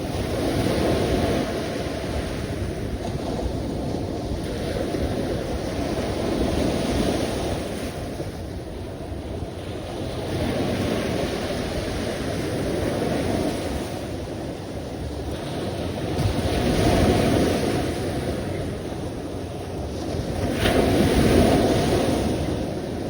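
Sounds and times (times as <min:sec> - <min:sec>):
ocean waves breaking: 0:00.0 - 0:23.0.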